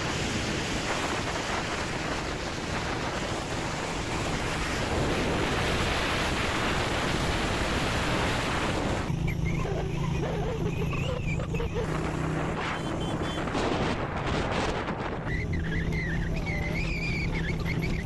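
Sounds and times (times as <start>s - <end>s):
road noise: 0.0s - 18.0s
wind buffeting microphone: 0.0s - 18.0s.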